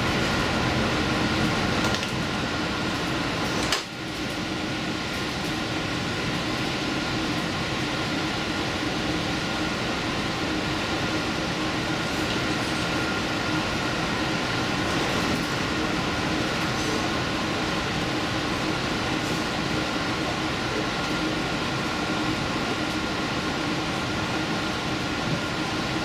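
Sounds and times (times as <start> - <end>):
train rumble with steady hum: 0.0 - 26.0.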